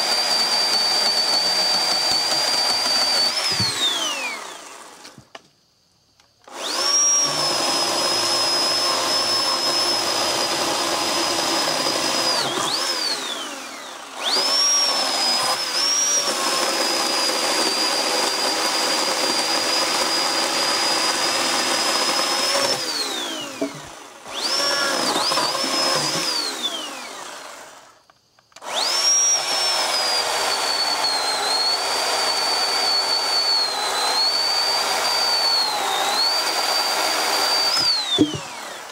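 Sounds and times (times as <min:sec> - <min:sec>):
electric chainsaw whine: 0:00.0 - 0:05.6, 0:06.2 - 0:38.9.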